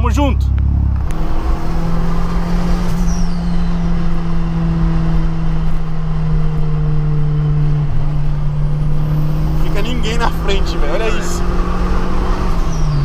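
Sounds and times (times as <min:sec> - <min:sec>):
car engine cruising: 0:00.0 - 0:13.0
road noise: 0:00.0 - 0:13.0.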